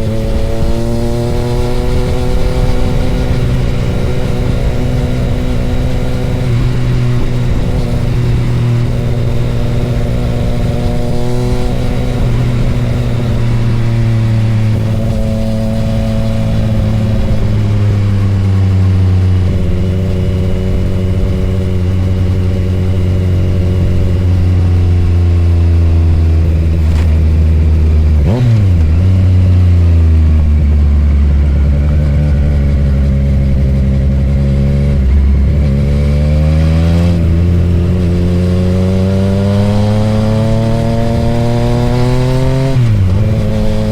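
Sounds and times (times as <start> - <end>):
motorcycle engine at speed: 0.0 - 43.9.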